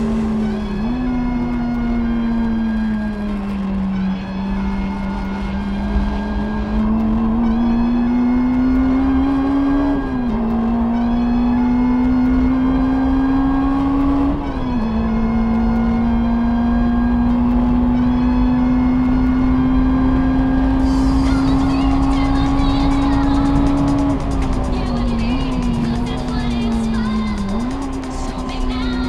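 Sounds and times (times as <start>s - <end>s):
car engine accelerating: 0.0s - 29.0s
gear upshifts: 0.0s - 29.0s.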